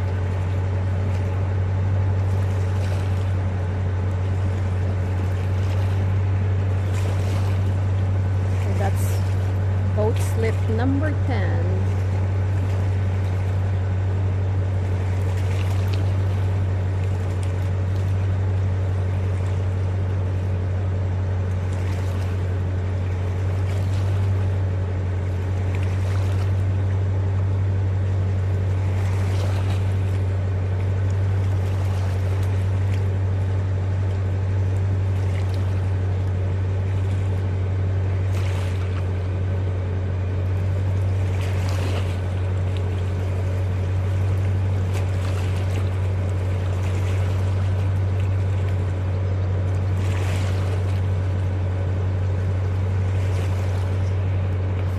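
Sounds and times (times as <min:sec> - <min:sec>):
motorboat engine idling: 0:00.0 - 0:54.9
water lapping against hull: 0:00.0 - 0:54.9.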